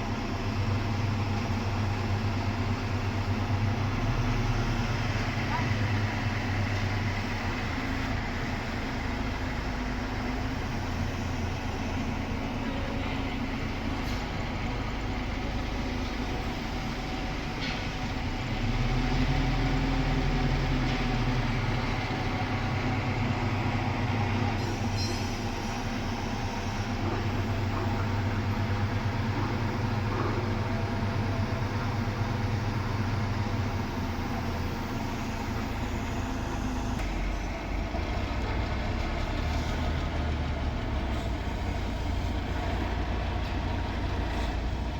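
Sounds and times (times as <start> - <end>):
machinery engine droning: 0.0 - 44.9.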